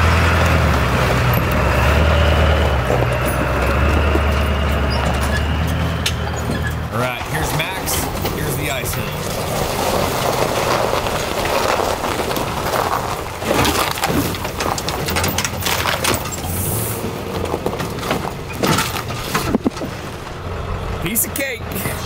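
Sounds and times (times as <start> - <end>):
tyres crunching on frozen ground: 0.0 - 20.5
trailer knocking and rattling: 0.0 - 22.0.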